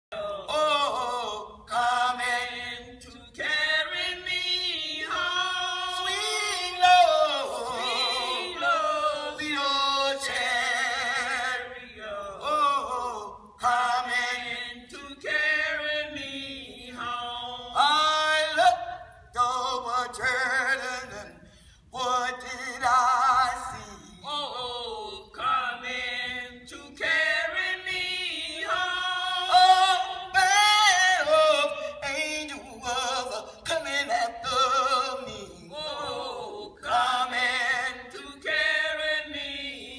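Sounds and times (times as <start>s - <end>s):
women singing a cappella gospel: 0.1s - 39.9s.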